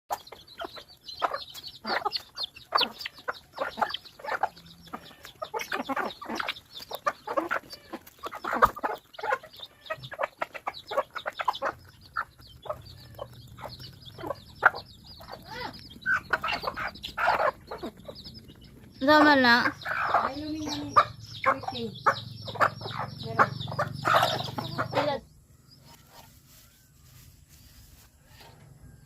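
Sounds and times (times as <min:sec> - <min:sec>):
chickens clucking: 0:00.1 - 0:29.0.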